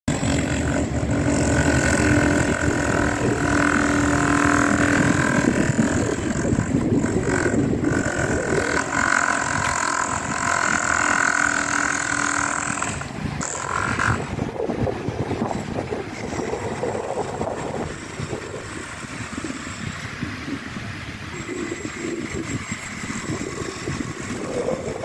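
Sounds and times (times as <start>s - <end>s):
diesel excavator engines rumbling: 0.1s - 25.0s
high whine: 0.1s - 25.0s.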